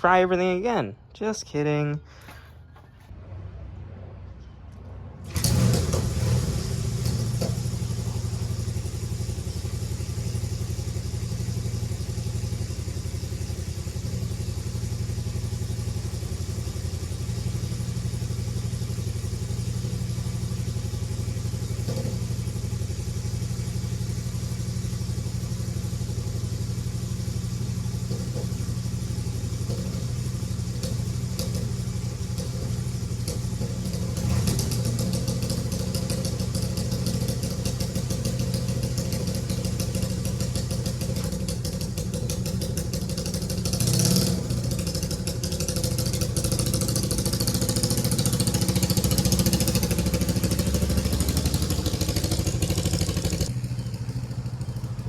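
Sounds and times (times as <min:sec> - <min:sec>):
motorcycle engine starting and idling: 0:04.4 - 0:55.0.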